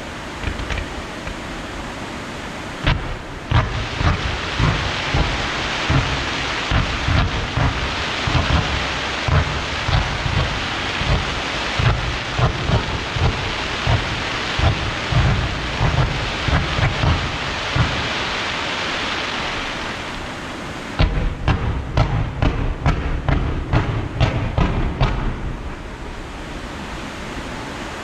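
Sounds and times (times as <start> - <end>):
crackling hiss of fireworks: 0.0 - 28.0
firework booms: 2.8 - 26.1.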